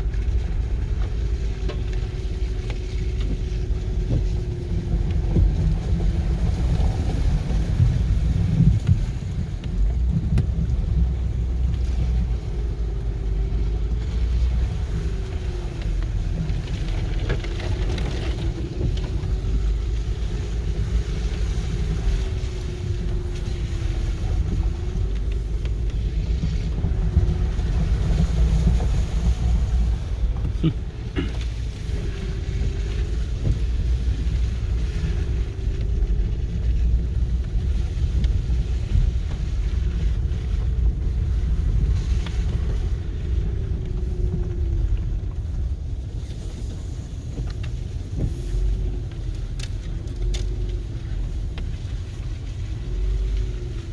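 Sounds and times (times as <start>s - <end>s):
car engine rumbling: 0.0s - 53.9s.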